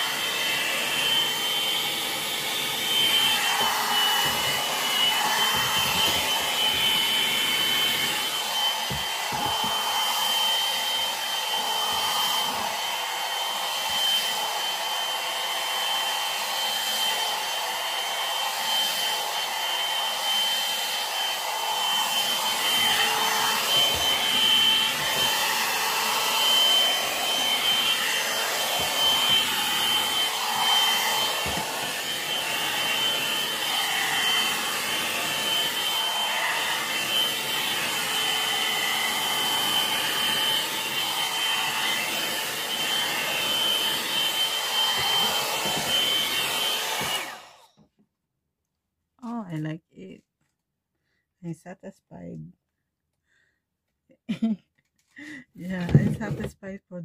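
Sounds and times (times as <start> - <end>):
hot air brush whining: 0.0 - 47.7.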